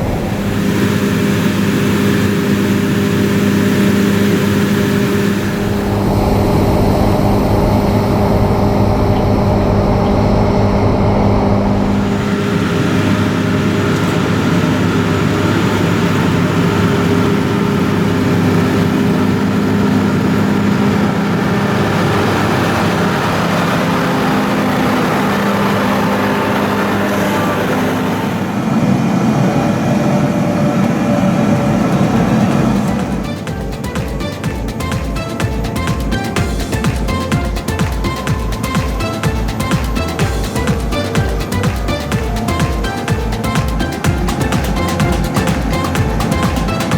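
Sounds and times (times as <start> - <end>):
diesel farm machinery engine: 0.0 - 46.9.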